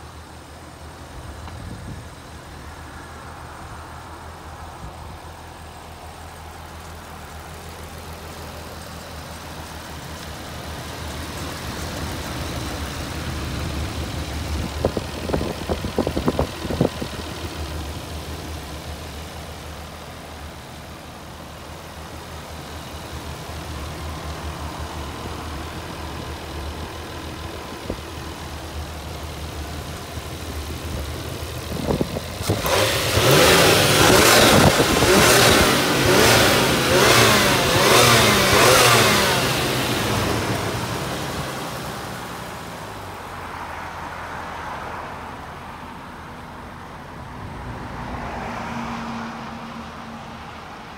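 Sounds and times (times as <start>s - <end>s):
car engine idling: 0.0s - 47.5s.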